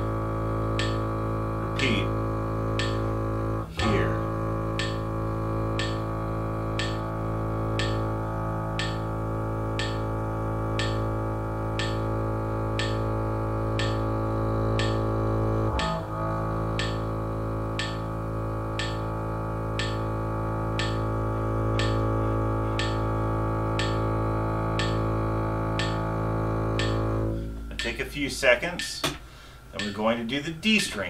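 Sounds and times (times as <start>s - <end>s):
bowed double bass notes: 0.0s - 29.1s
metronome clicking: 0.0s - 31.0s.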